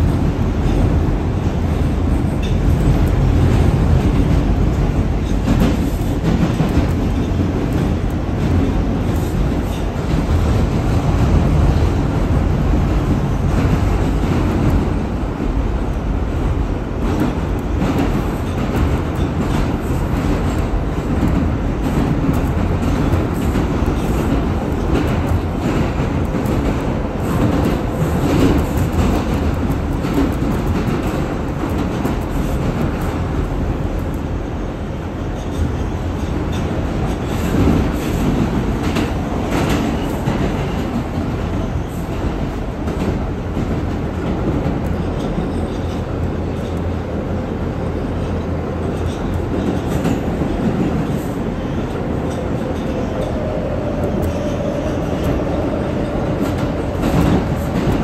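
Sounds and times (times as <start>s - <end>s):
subway wheels rumbling on rails: 0.0s - 58.0s.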